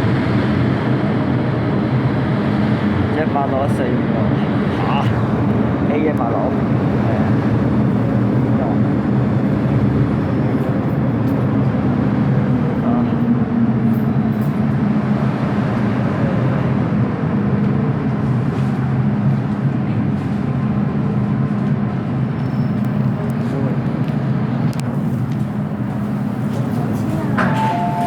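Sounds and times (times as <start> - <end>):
electric train running drone: 0.0 - 28.0.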